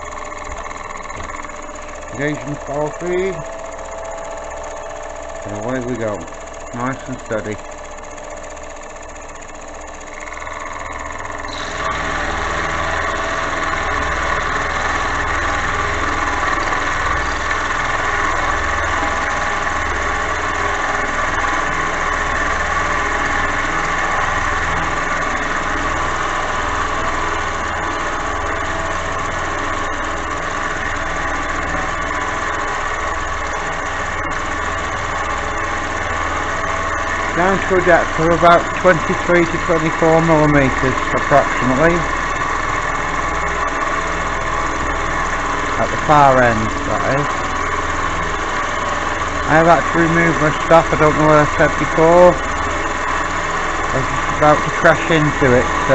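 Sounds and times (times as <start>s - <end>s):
milling cutter cutting steel: 0.0s - 55.9s
motor hum: 0.0s - 55.9s.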